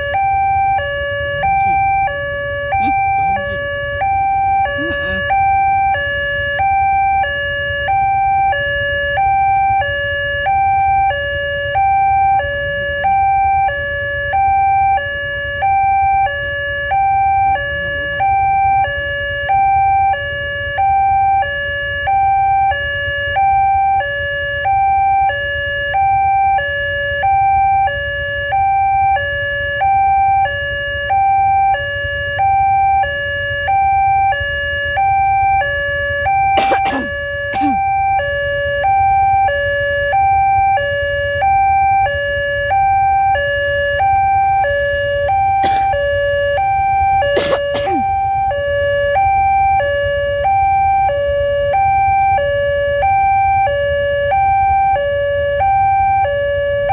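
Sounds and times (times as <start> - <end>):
level-crossing alarm two-tone: 0.0 - 56.9.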